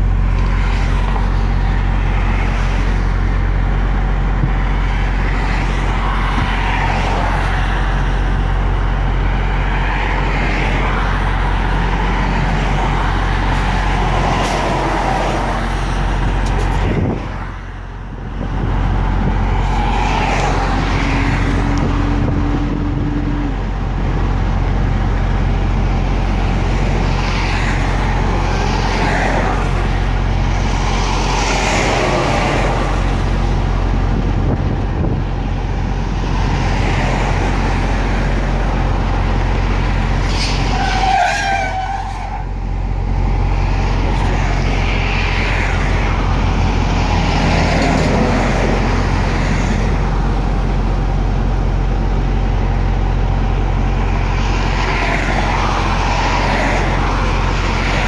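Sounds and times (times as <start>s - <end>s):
road noise: 0.0s - 58.0s
traffic passing: 0.0s - 58.0s
truck engine drone: 0.0s - 58.0s.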